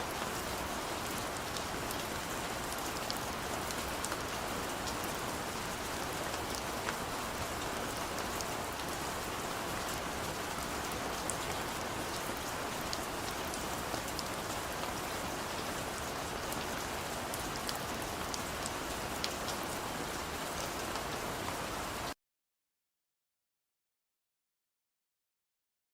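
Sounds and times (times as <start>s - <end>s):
heavy rain: 0.0s - 22.2s.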